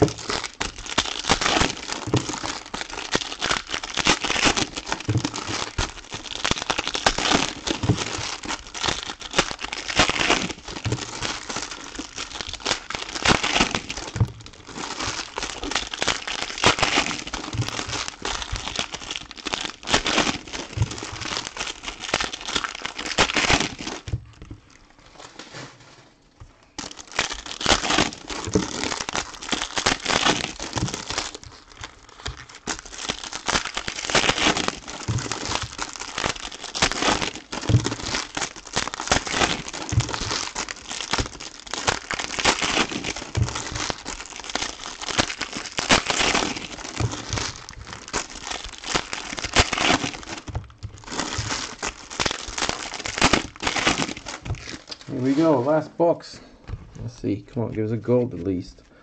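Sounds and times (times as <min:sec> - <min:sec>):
foil wrappers tearing and crinkling: 0:00.0 - 0:25.6, 0:26.7 - 0:55.9.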